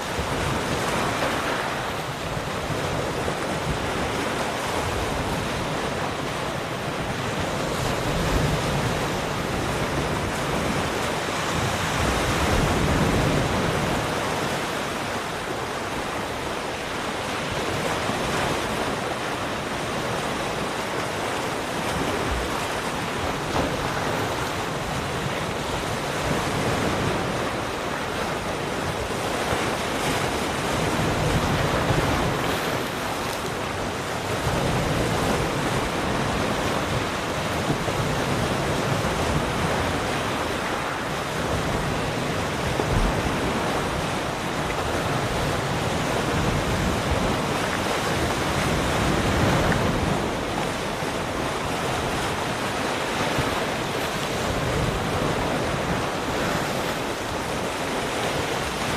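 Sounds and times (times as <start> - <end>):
ocean waves breaking on shore: 0.0 - 58.9
wind on microphone: 0.0 - 58.9.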